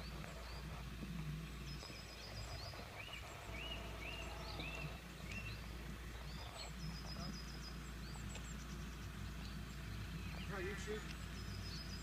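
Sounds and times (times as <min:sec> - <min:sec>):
faint low rumble: 0:00.0 - 0:12.0
small birds chirping: 0:00.0 - 0:12.0.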